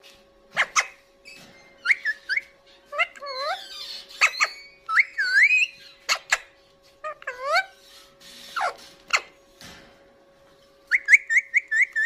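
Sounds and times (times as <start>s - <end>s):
parakeet whistles and chatter: 0.5s - 9.4s, 10.9s - 12.0s.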